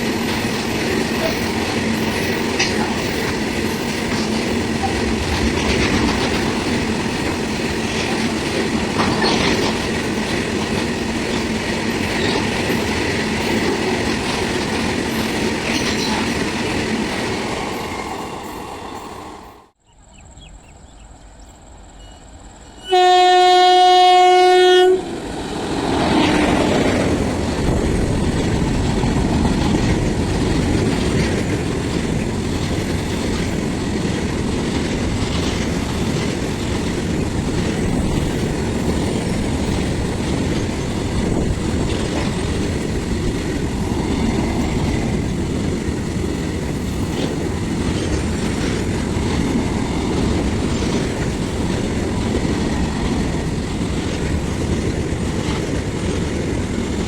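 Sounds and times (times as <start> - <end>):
clatter over rail joints: 0.0 - 17.4, 25.9 - 57.0
train wheels rumbling on rails: 0.0 - 19.8, 21.0 - 57.0.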